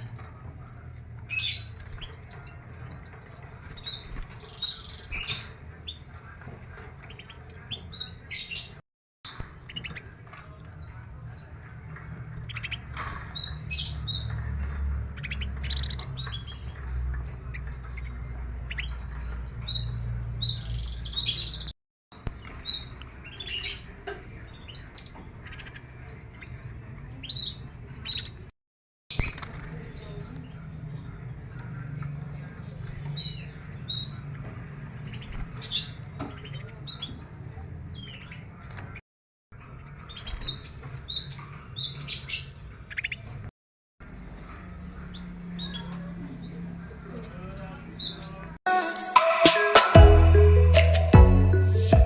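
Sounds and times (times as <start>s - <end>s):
canaries chirping: 0.0s - 39.0s, 39.6s - 48.7s.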